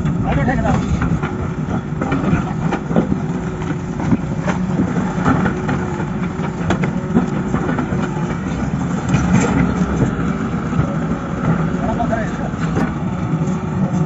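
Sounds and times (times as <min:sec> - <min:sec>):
heavy machinery engine running: 0:00.0 - 0:14.0
knocks and clatter: 0:00.0 - 0:14.0.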